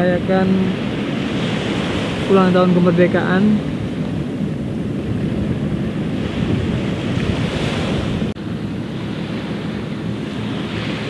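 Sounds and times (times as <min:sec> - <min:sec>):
small waves washing onto sand: 0:00.0 - 0:11.0
wind buffeting microphone: 0:00.0 - 0:11.0.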